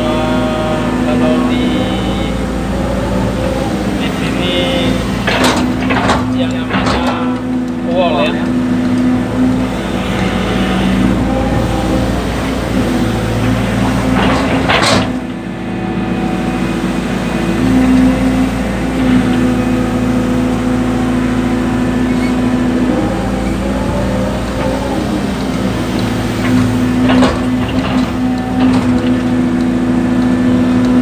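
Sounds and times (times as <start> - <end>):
excavator diesel engine: 0.0 - 31.0.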